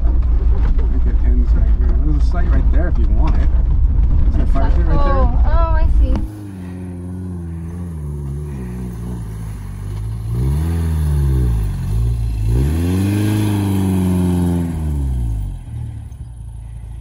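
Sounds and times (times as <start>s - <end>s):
van engine revving: 0.0s - 17.0s.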